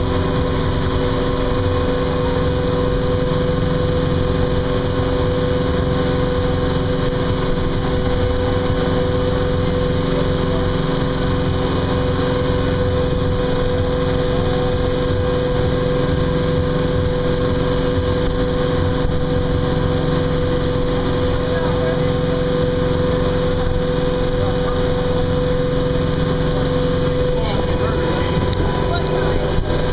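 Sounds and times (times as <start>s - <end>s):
motorboat engine droning: 0.0s - 29.9s
water churning in boat wake: 0.0s - 29.9s.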